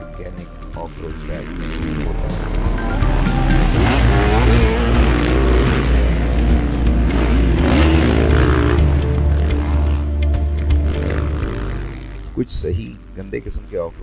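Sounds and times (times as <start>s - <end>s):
motorcycle engine revving: 0.9s - 13.2s.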